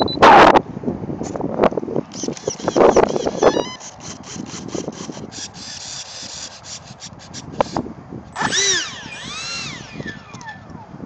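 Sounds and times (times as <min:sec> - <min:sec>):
model jet fan whine passing overhead: 0:02.0 - 0:11.0.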